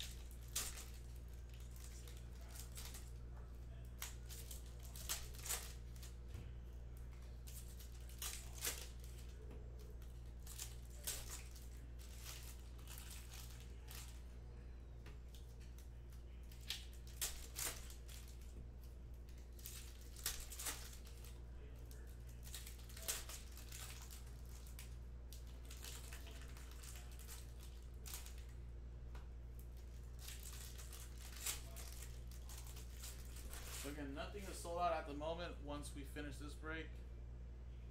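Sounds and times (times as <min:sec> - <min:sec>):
foil wrappers tearing and crinkling: 0:00.0 - 0:06.2, 0:07.3 - 0:14.2, 0:15.3 - 0:18.6, 0:19.3 - 0:28.6, 0:29.6 - 0:34.6
steady low hum: 0:00.0 - 0:37.9.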